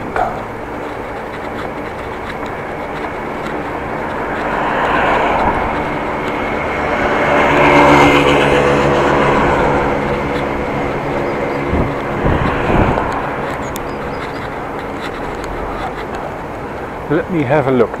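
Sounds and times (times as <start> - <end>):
vehicle engine passing: 0.0 - 17.4
road noise: 0.0 - 18.0.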